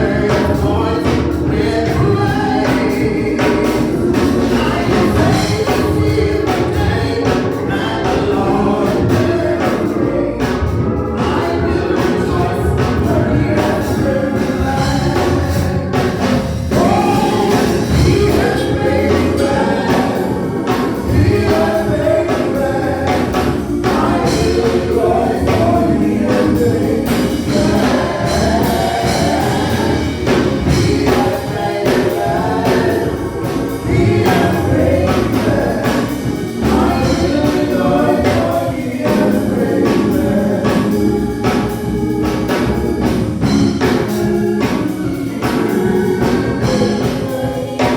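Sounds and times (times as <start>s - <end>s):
band accompaniment: 0.0s - 47.9s
gospel choir singing: 0.0s - 47.9s.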